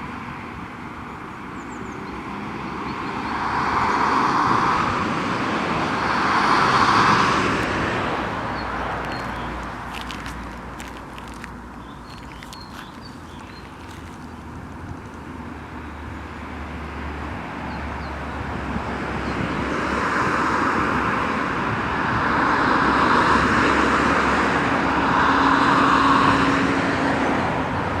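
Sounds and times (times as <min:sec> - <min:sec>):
road traffic rushing past: 0:01.4 - 0:28.0.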